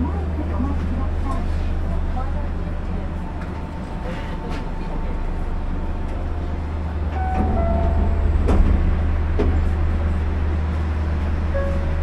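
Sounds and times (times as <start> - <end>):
train hum in cab: 0.0 - 12.0.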